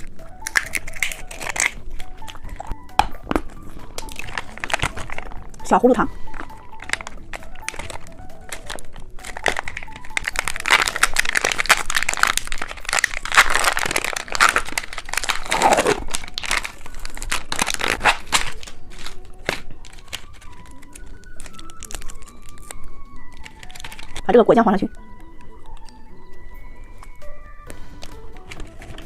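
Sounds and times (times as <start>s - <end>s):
plastic packaging crinkling: 0.0s - 24.3s, 27.9s - 29.0s.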